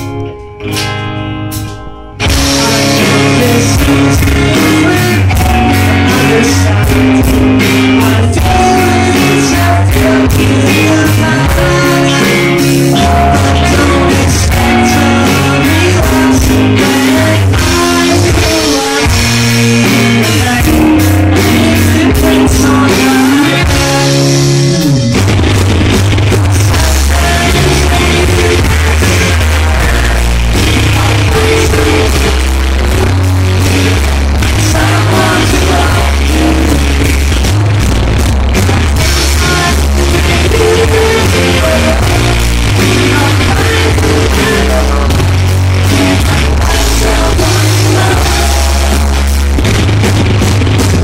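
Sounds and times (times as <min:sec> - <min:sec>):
live rock band: 0:00.0 - 0:51.0
man singing into microphone: 0:02.4 - 0:24.9, 0:26.7 - 0:37.3, 0:38.6 - 0:49.3.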